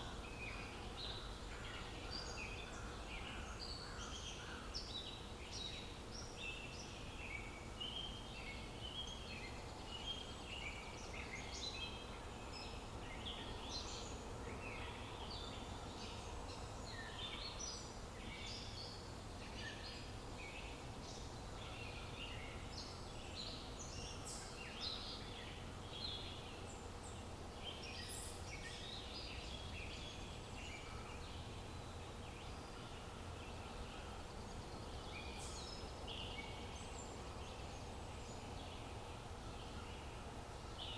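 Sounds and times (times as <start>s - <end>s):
faint steady hum: 0.0s - 40.9s
low outdoor background noise: 0.0s - 40.9s
small birds chirping and trilling: 0.0s - 40.9s.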